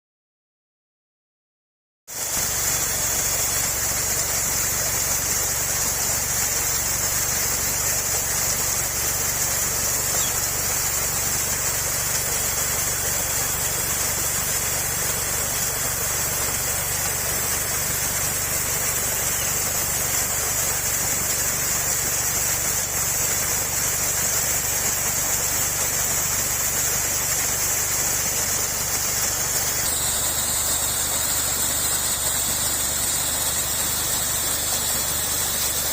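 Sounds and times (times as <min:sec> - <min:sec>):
rushing waterfall: 0:02.1 - 0:35.9.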